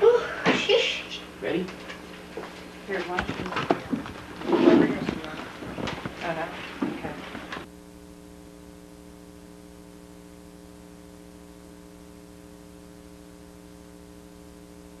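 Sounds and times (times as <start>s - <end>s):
steady multi-tone hum: 0.0s - 15.0s.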